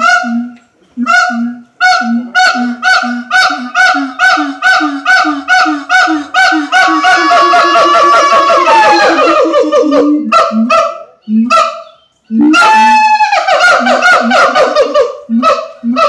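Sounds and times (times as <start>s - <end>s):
higher gibbon call gliding down: 0.0s - 10.3s, 12.3s - 15.1s
gibbons hooting: 0.0s - 16.0s.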